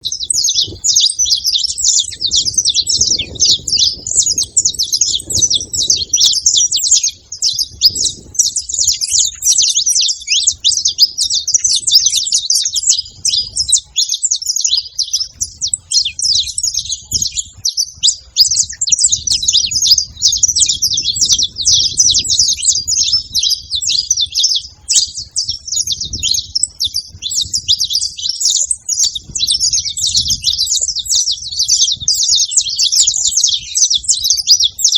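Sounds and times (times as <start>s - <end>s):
finches chirping: 0.0s - 34.9s.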